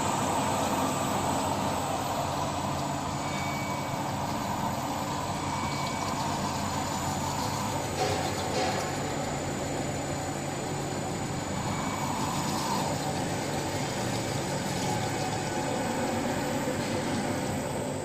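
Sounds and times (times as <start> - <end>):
machine mechanical hum: 0.0 - 18.0
thin high whine: 0.0 - 18.0.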